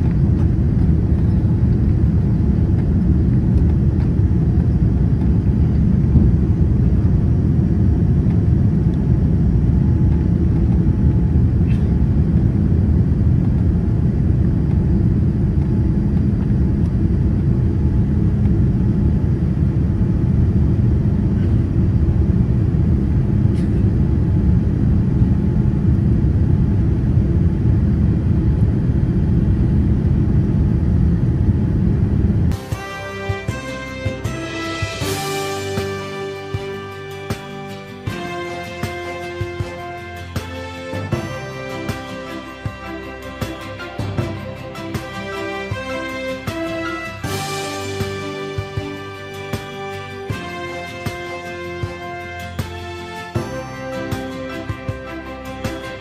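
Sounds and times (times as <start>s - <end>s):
airplane cabin rumble: 0.0s - 53.5s.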